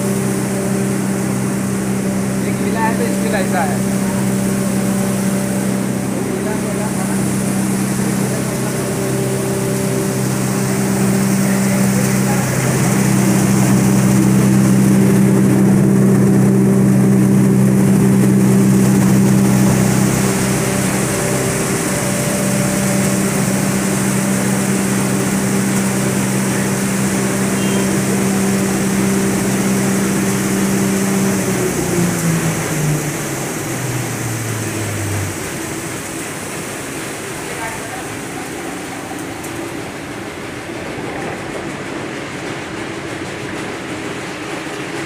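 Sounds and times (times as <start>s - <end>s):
grinder machine humming: 0.0s - 45.0s
steady background noise: 0.0s - 45.0s.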